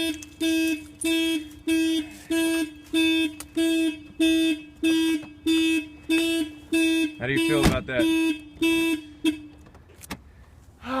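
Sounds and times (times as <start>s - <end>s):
car alarm honking horn: 0.0s - 9.7s.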